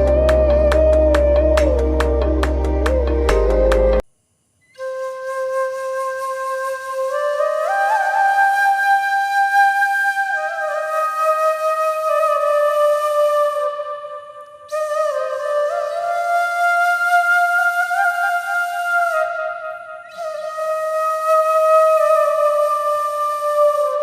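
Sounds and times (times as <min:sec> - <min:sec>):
solo flute melody: 0:00.0 - 0:04.0, 0:04.7 - 0:24.0.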